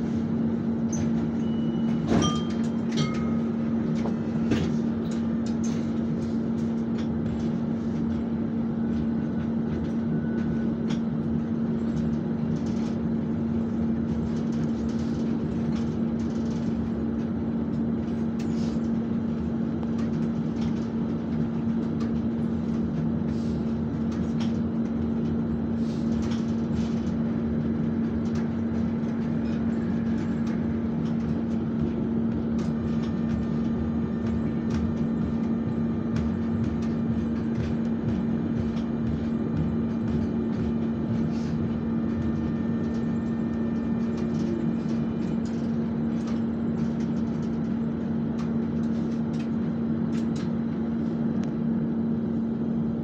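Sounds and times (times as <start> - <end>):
tram running noise: 0.0 - 53.0.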